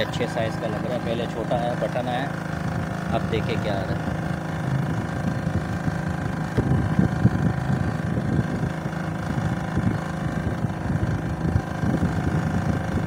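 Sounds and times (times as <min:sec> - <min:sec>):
engine droning: 0:00.0 - 0:13.0
wind buffeting microphone: 0:00.0 - 0:13.0.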